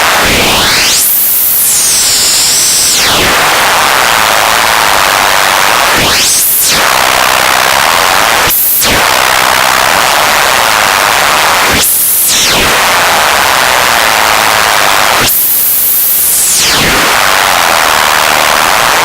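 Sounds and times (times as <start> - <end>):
radio static hissing and crackling: 0.0 - 19.0.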